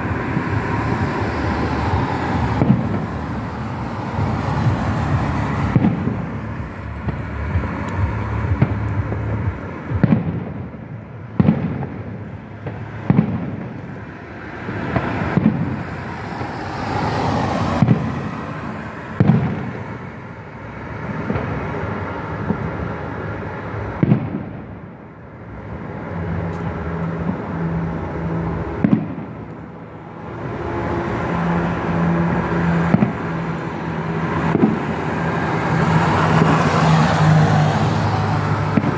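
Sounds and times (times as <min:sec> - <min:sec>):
fireworks bursting: 0:00.0 - 0:38.9
road traffic passing: 0:00.0 - 0:38.9.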